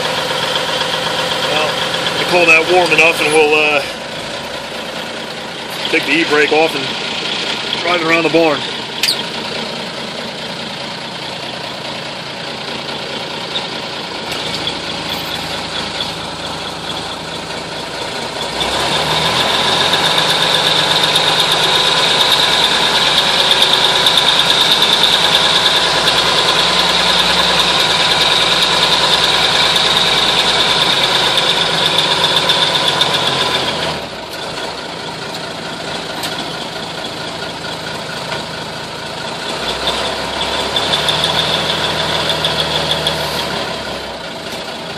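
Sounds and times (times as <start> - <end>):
engine revving: 0.0 - 11.8, 12.5 - 44.9
diesel truck engine idling: 0.0 - 44.9.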